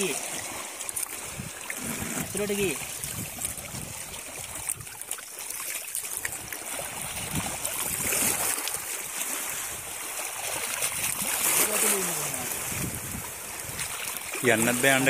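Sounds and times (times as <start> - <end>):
seawater sloshing among rocks: 0.0 - 15.0.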